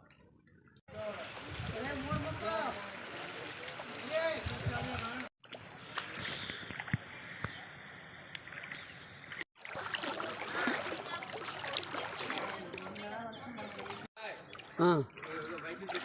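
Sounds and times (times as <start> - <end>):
floodwater running and splashing: 0.0 - 16.0.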